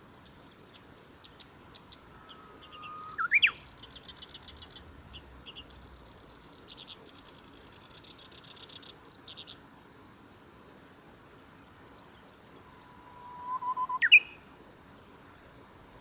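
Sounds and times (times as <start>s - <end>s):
bush warbler song: 0.0s - 16.0s.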